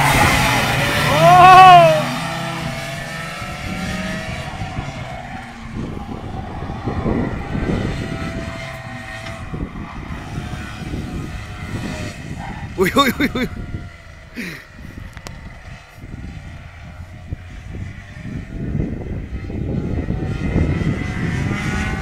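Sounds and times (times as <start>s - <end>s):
racing karts passing at high revs: 0.0s - 22.0s.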